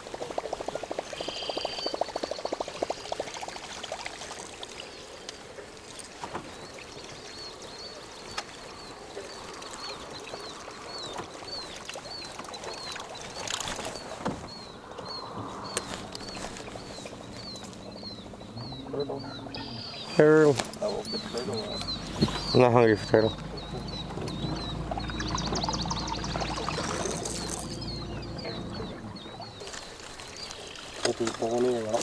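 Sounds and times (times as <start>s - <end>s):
water lapping around a boat: 0.0s - 32.0s
bird chirping: 1.2s - 3.1s, 6.5s - 32.0s.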